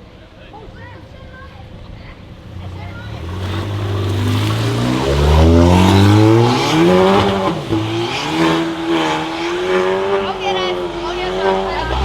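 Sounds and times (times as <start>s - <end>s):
car engine accelerating: 1.8s - 12.0s.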